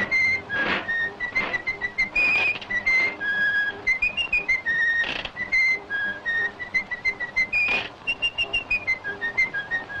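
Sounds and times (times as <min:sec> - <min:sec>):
whistled melody music: 0:00.0 - 0:10.0.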